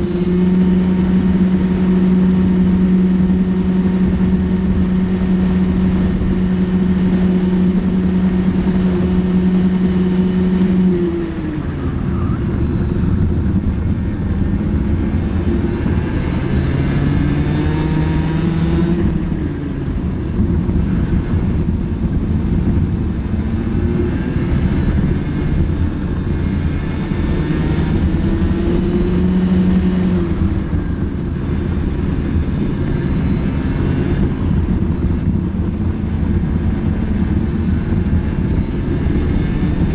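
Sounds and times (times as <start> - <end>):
kart engine revving: 0.0 - 39.9
wind and tyre noise: 0.0 - 39.9.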